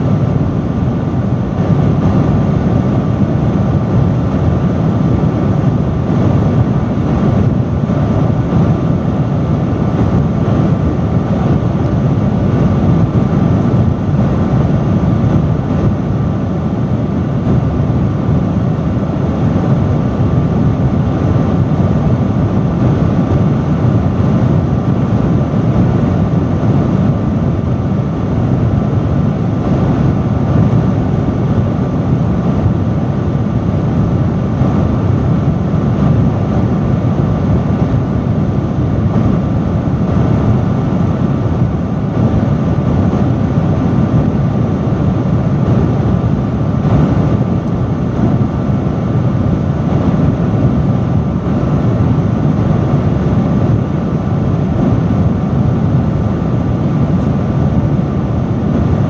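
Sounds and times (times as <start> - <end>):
faint steady whine: 0.0 - 59.0
industrial fan rushing air: 0.0 - 59.0.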